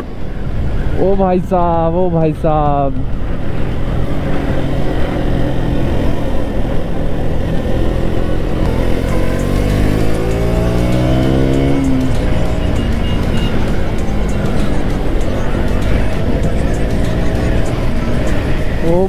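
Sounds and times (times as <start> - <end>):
motorcycle engine revving: 3.0 - 19.0.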